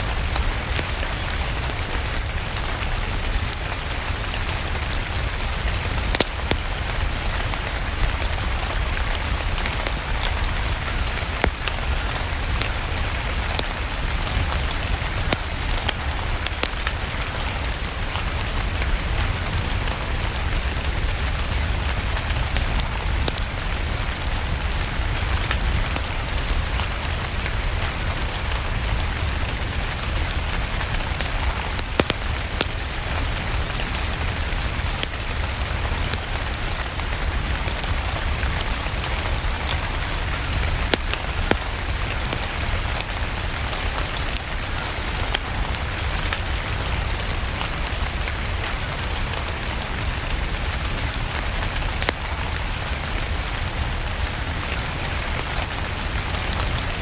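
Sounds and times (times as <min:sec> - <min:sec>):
crackling fire: 0:00.0 - 0:57.0
steady rain: 0:00.0 - 0:57.0.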